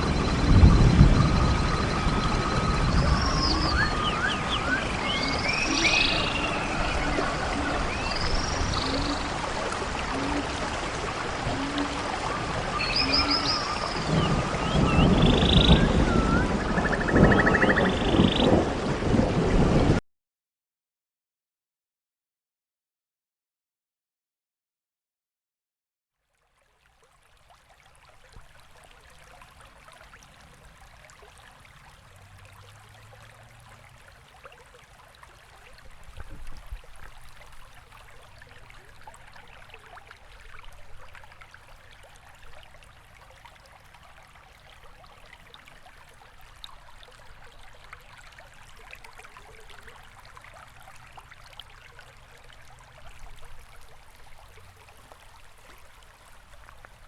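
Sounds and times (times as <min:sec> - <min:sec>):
stream water trickling: 0:00.0 - 0:19.9, 0:26.1 - 0:57.0.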